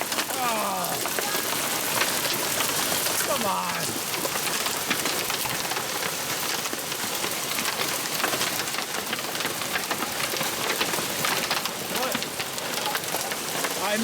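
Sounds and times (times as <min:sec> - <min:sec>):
hailstones pelting down: 0:00.0 - 0:14.0.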